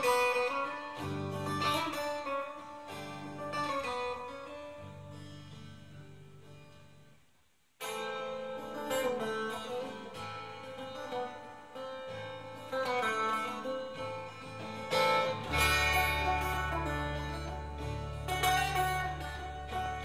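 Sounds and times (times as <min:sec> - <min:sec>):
acoustic guitar plucking: 0:00.0 - 0:07.2, 0:07.8 - 0:20.0.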